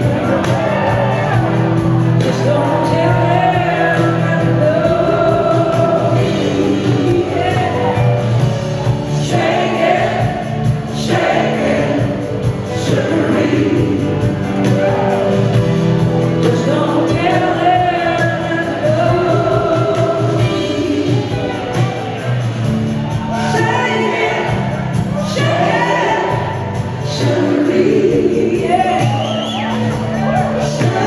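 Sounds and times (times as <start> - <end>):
woman singing lead: 0.0 - 22.2, 23.2 - 31.0
blues-rock band playing: 0.0 - 31.0
electric guitar: 0.0 - 31.0.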